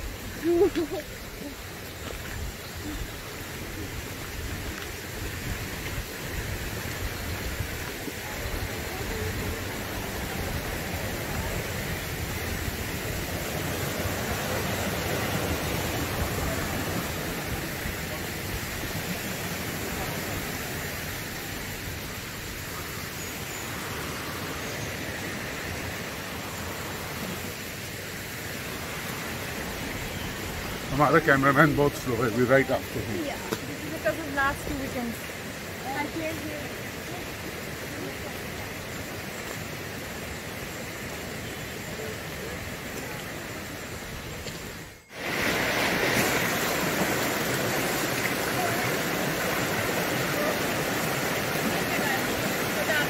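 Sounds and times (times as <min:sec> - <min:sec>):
stream rushing: 0:00.0 - 0:53.0.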